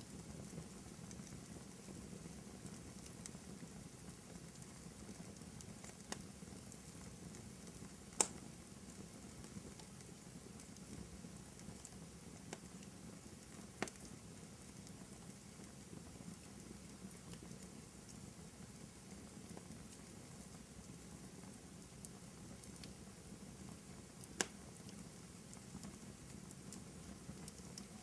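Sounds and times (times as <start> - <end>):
fire hissing and crackling: 0.0 - 28.0
burning wood popping: 0.1 - 28.0.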